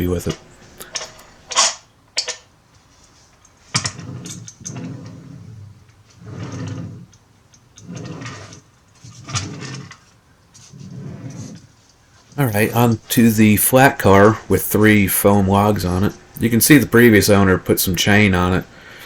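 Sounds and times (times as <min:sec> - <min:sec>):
model train wheels rumbling: 0:03.6 - 0:19.0.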